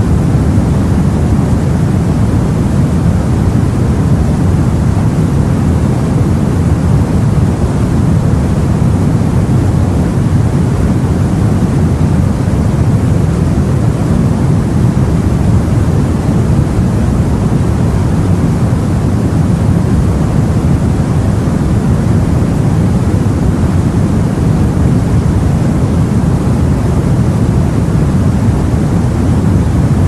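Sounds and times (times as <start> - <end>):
sea and wind rushing: 0.0 - 30.0.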